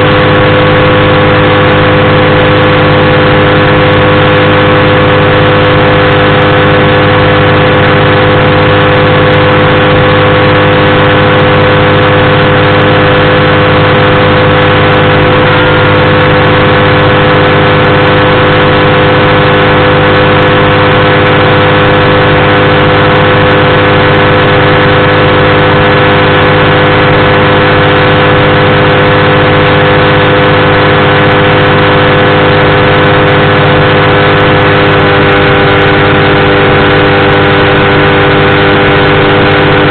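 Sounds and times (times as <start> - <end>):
powered parachute engine running: 0.0 - 39.9.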